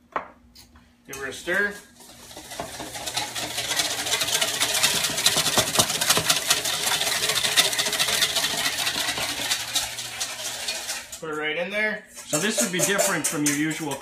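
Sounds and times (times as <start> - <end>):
utensil stirring in container: 1.4 - 11.2, 12.2 - 14.0.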